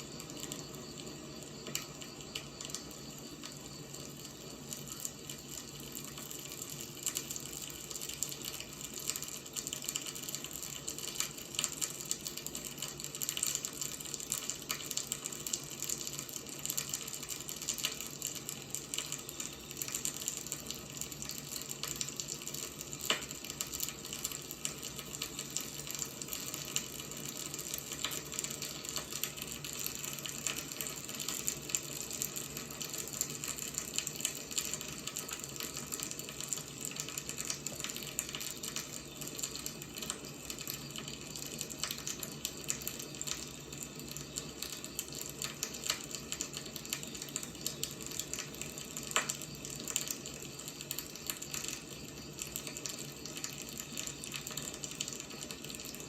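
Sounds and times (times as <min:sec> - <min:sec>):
firewood crackling and popping: 0:00.0 - 0:56.0
steady fire hiss: 0:00.0 - 0:56.0.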